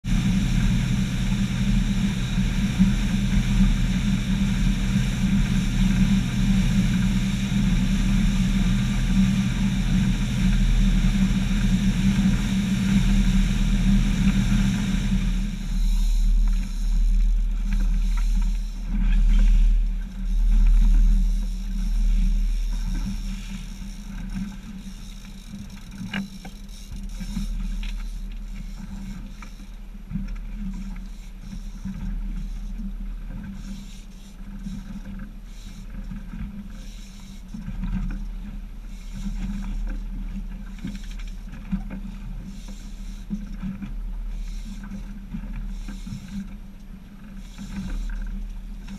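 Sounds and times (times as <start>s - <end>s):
outboard motors droning: 0.0s - 48.9s
water and wind rushing: 0.0s - 48.9s.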